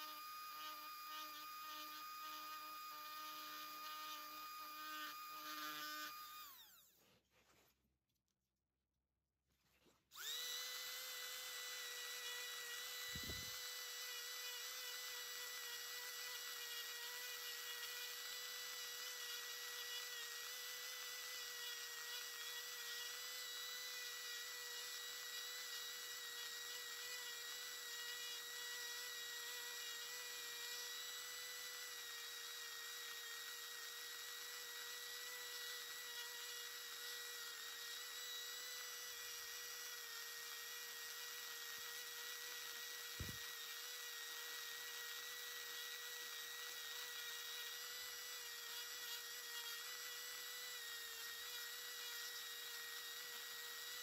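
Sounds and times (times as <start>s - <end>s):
rotary carving tool whining: 0.0s - 7.6s, 9.8s - 54.0s.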